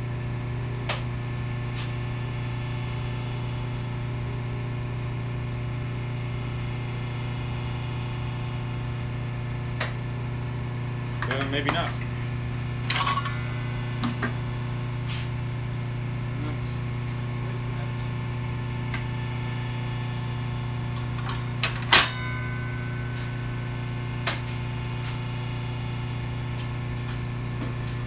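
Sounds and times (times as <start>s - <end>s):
low electric hum: 0.0s - 28.0s.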